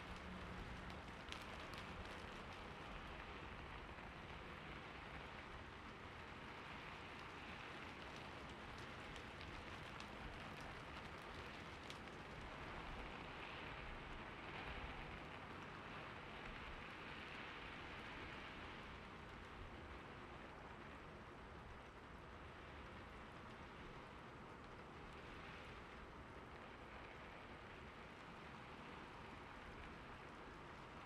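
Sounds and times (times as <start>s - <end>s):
falling water hiss and patter: 0.0s - 31.0s.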